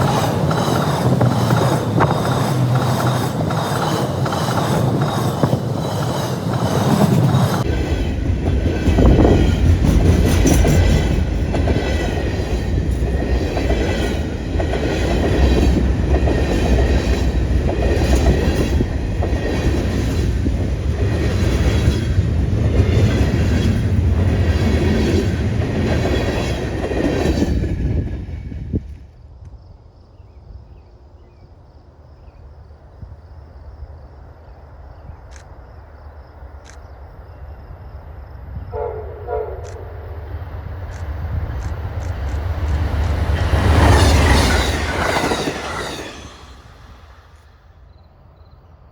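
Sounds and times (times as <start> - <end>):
train passing close by: 0.0 - 48.9.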